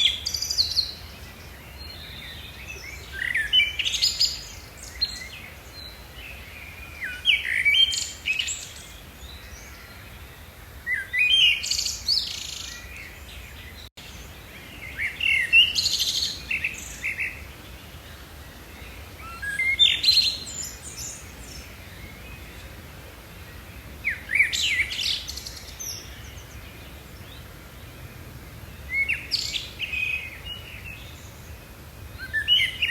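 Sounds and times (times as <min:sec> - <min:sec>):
faint steady outdoor hiss: 0:00.0 - 0:32.9
songbird chirping and trilling: 0:00.0 - 0:32.9.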